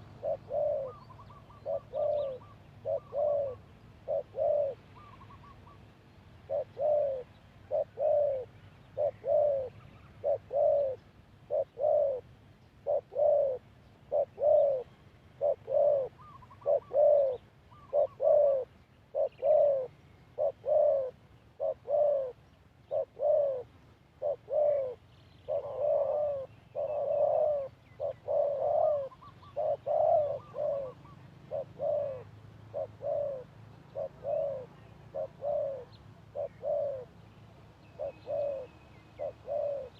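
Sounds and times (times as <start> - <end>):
dove cooing: 0.0 - 37.2, 37.8 - 39.9.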